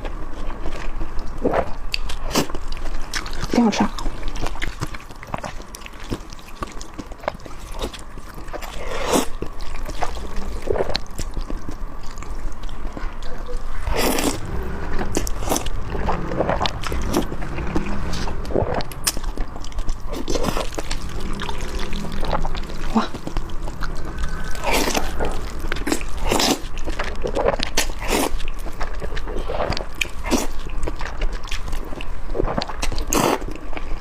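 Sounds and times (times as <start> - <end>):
person chewing: 0.4 - 34.0.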